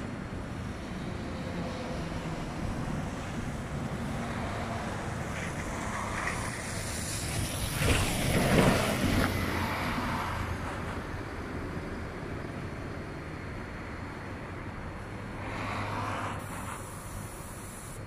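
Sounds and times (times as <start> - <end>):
cars driving past: 0.0 - 18.0
city bus driving past: 0.0 - 18.0.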